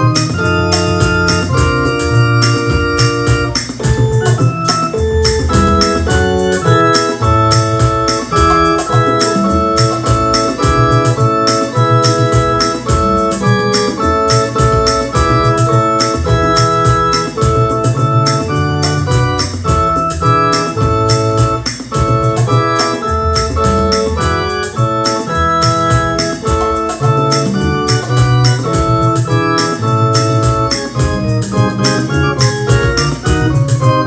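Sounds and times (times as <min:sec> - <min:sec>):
hymn on organ-like keyboard: 0:00.0 - 0:34.0.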